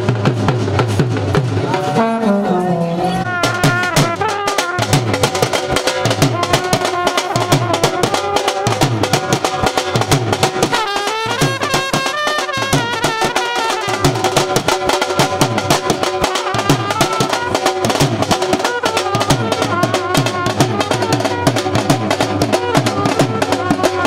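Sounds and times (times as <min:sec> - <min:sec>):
marching bass drum: 0:00.0 - 0:02.3, 0:03.2 - 0:24.0
side drum beaten fast: 0:00.0 - 0:02.5, 0:03.2 - 0:24.0
brass horn melody: 0:01.8 - 0:24.0.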